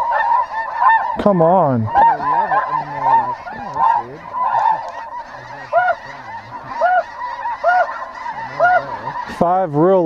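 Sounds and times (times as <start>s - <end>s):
goose honking calls: 0.0s - 10.0s.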